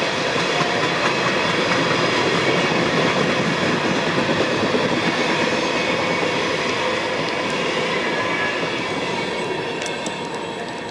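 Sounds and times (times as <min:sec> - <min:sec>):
freight train cars rumbling past: 0:00.0 - 0:10.9.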